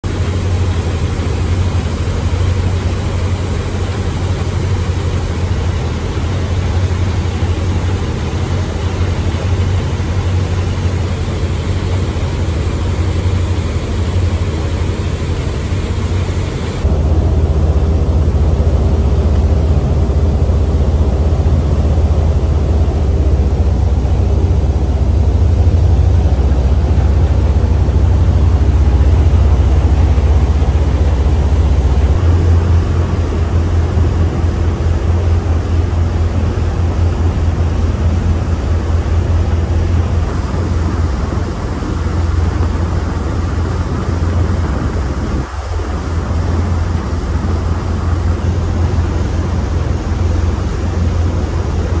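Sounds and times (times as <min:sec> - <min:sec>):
churning wake hissing: 0:00.0 - 0:52.0
ferry engines droning: 0:00.0 - 0:52.0
wind: 0:00.0 - 0:52.0.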